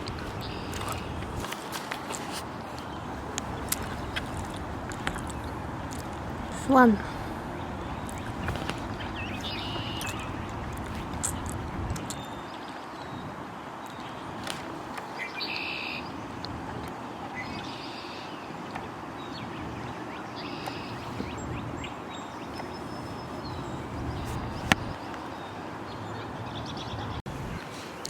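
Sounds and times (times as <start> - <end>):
birds calling: 0.0 - 13.2, 13.8 - 28.0
outdoor background noise: 0.0 - 28.0.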